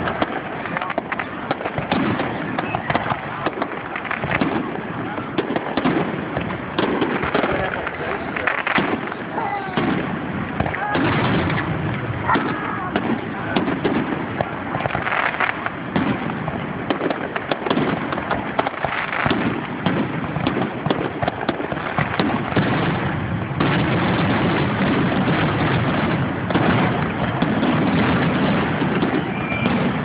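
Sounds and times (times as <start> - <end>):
fireworks cracking and popping: 0.0 - 30.0.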